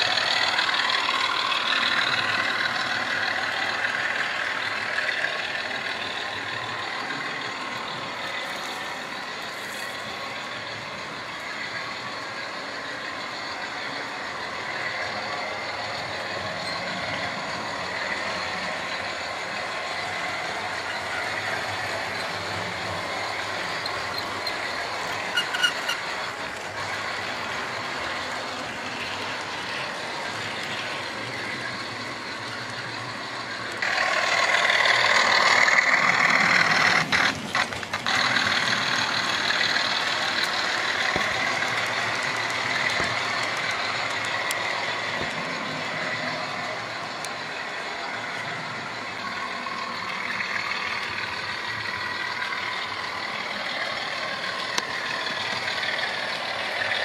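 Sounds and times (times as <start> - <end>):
model train motors whirring: 0.0 - 57.0.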